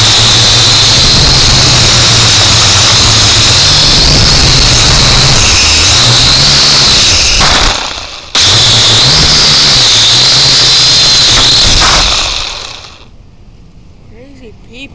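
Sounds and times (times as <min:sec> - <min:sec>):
drone propellers whining: 0:00.0 - 0:13.1.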